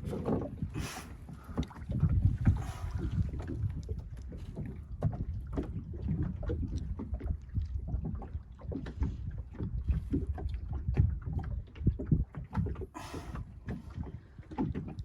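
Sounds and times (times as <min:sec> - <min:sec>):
waves slapping against boat hull: 0:00.0 - 0:15.0
wind rumble on microphone: 0:00.0 - 0:15.0.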